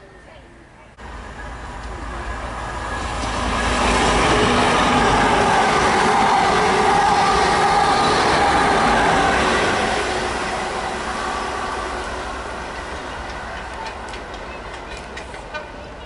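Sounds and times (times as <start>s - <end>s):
diesel train passing: 0.0s - 16.0s.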